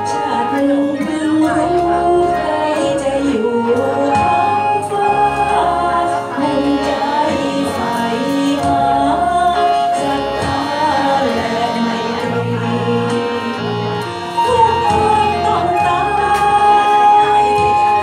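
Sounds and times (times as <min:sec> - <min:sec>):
karaoke backing track: 0:00.0 - 0:18.0
woman singing into a microphone: 0:00.0 - 0:18.0.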